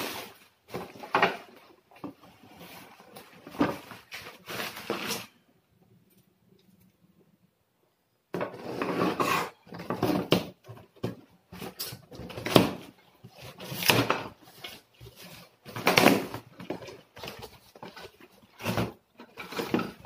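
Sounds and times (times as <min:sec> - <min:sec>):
cardboard flaps scraping and rustling: 0:00.0 - 0:05.4, 0:08.5 - 0:20.0.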